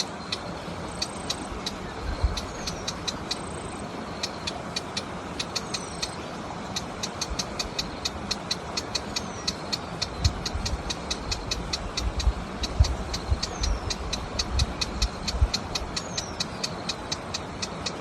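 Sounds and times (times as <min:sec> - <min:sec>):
low rumble of road traffic: 0:00.0 - 0:18.0
warbler chip notes and whistles: 0:01.0 - 0:06.2, 0:06.8 - 0:18.0.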